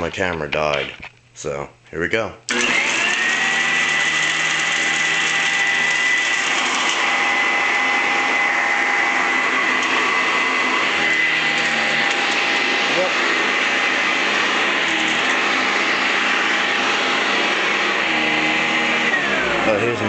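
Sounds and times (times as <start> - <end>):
vacuum cleaner whining: 2.5 - 20.0.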